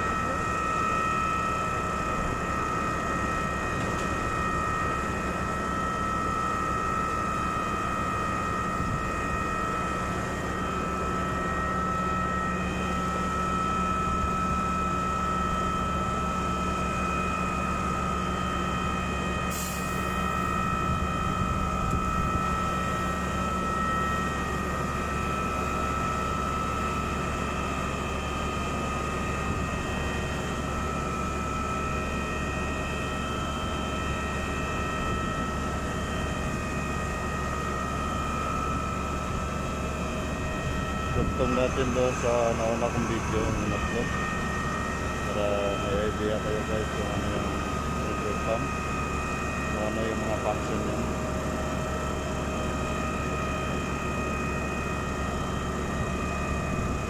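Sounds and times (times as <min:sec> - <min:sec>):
concrete pump running with whine: 0:00.0 - 0:57.0.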